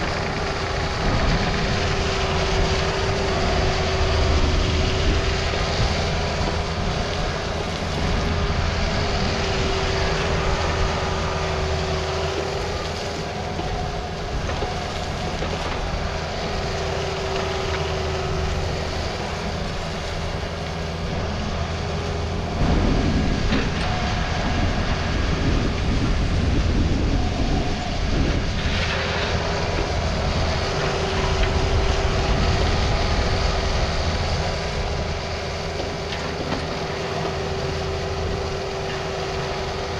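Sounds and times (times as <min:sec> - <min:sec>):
excavator diesel engine running: 0:00.0 - 0:39.9
high steady whine: 0:00.0 - 0:39.9.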